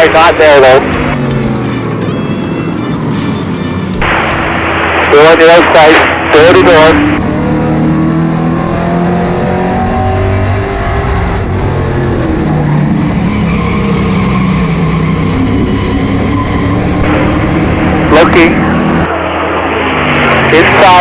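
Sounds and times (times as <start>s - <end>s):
race car engine running hard: 0.0s - 21.0s.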